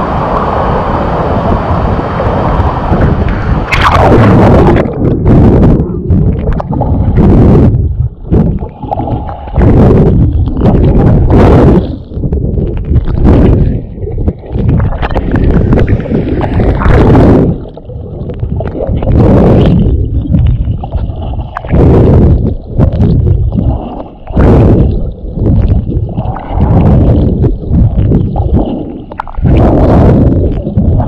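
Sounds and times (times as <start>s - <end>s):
water splashes: 0.0s - 7.6s, 8.3s - 31.0s
muffled rushing swimming strokes: 0.0s - 31.0s
underwater churning and gurgling: 0.0s - 31.0s.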